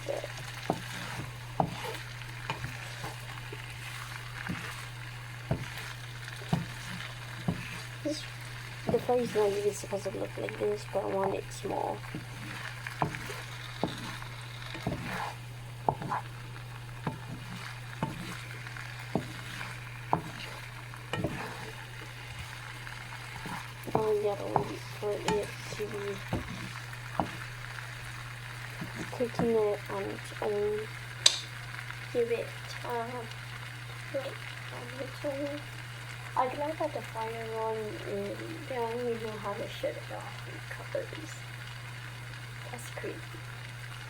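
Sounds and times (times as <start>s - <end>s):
fries sizzling in hot oil: 0.0s - 44.0s
steady low hum: 0.0s - 44.0s.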